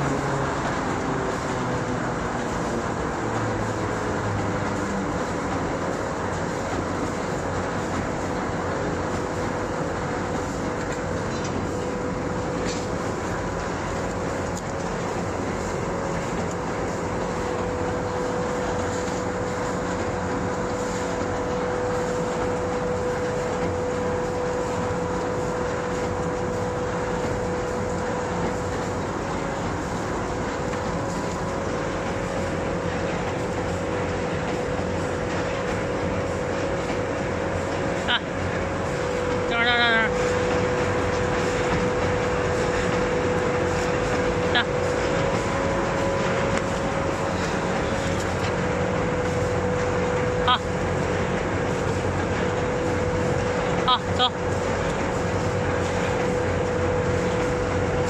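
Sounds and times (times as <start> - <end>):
machine clatter and drone: 0.0 - 58.0
machine whine: 0.0 - 58.0.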